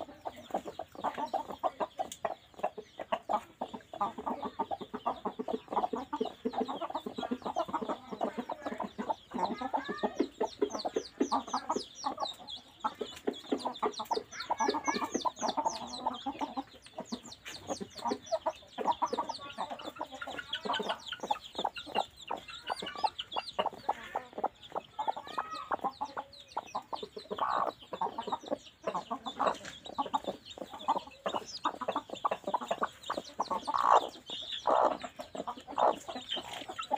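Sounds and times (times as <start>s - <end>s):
chickens clucking: 0.0s - 36.9s
chicks peeping: 0.0s - 36.9s.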